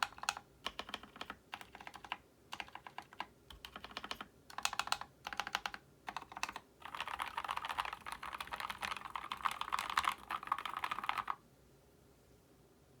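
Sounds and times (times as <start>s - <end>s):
mechanical keyboard typing: 0.0s - 11.4s.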